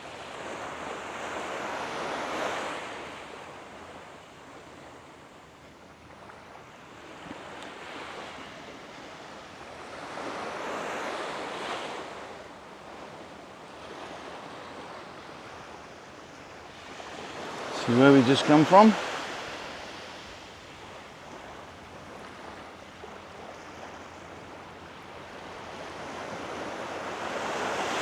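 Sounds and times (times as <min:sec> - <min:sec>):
waves washing on sandy beach: 0:00.0 - 0:28.0.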